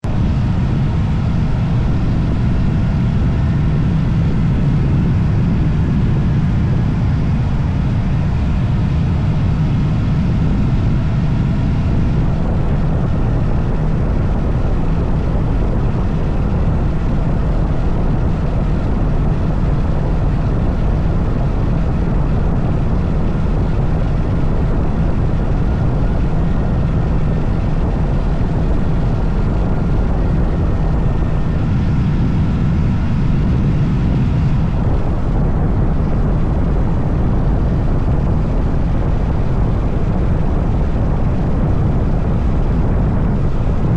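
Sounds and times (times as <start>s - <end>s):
wind rushing: 8.2s - 43.9s.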